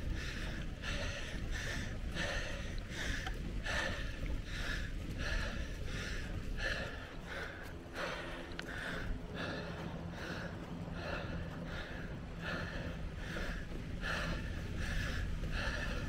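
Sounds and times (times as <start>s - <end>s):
cyclist breathing hard: 0.0s - 16.0s
low rumble on microphone: 0.0s - 16.0s.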